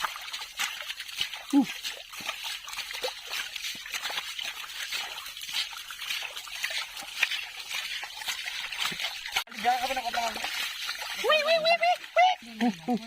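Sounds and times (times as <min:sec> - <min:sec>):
shallow water trickling and splashing: 0:00.0 - 0:13.0.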